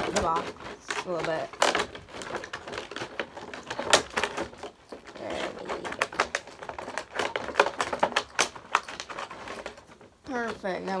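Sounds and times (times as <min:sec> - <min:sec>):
snips cutting packaging: 0:00.0 - 0:09.8.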